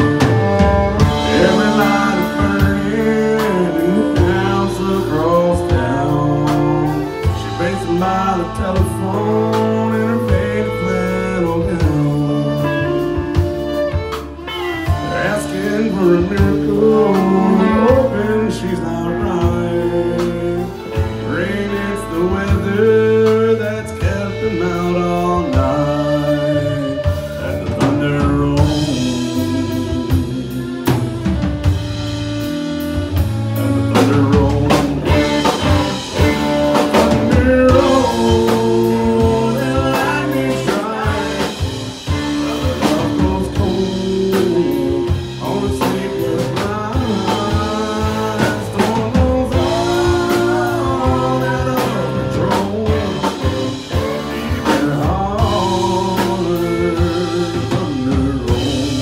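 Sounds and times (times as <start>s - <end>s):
country band playing: 0.0s - 59.0s
fiddle lead: 0.0s - 59.0s
person singing: 0.0s - 59.0s.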